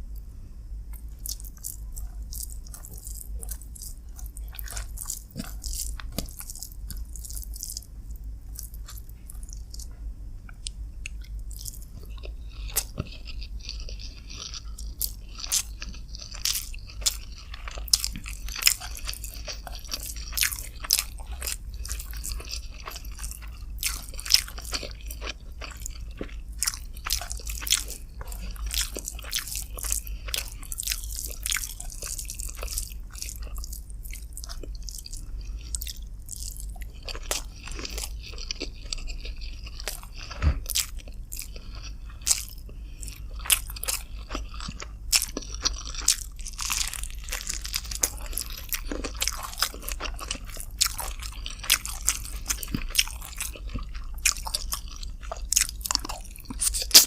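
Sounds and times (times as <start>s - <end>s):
person chewing food: 0.9s - 57.0s.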